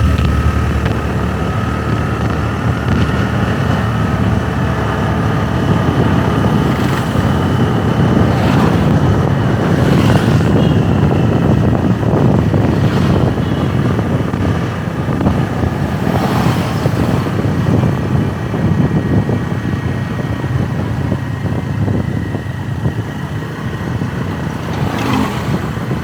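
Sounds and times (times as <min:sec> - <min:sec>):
motorbike engine rumbling: 0:00.0 - 0:26.0.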